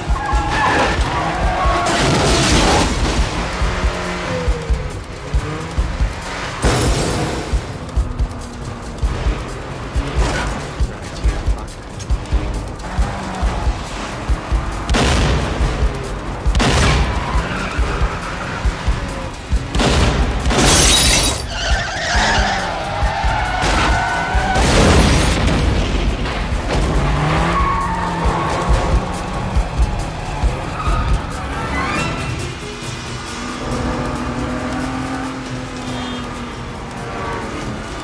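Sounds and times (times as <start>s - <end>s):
car engines revving: 0.0s - 38.0s
dramatic film score music: 0.0s - 38.0s
tyre noise: 0.0s - 38.0s.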